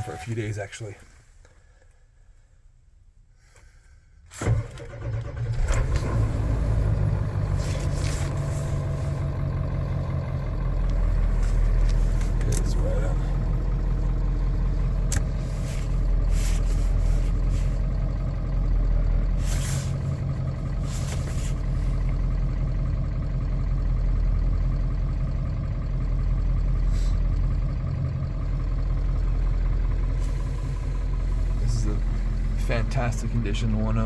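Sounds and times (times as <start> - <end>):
pickup engine idling: 6.2 - 34.0.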